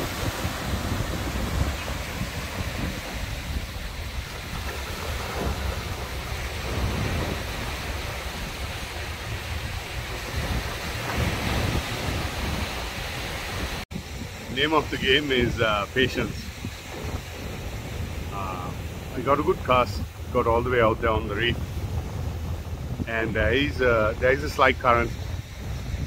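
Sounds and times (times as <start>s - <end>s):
surf breaking against boulders: 0.0s - 26.0s
wind rumbling on microphone: 0.0s - 26.0s.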